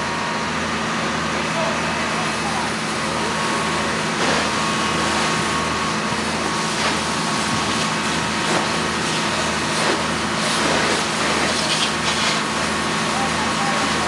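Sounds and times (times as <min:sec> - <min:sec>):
low engine drone: 0:00.0 - 0:14.0
hose spraying water: 0:02.2 - 0:14.0.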